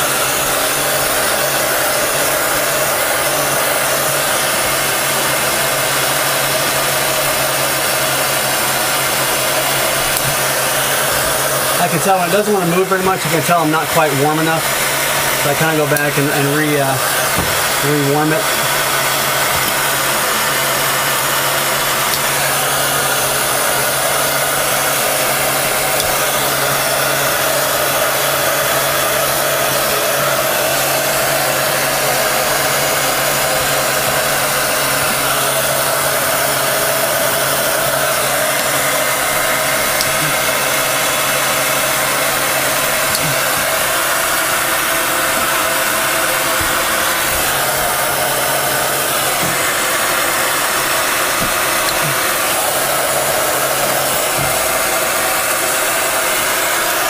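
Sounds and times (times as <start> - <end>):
hot-air blower running: 0.0 - 57.0.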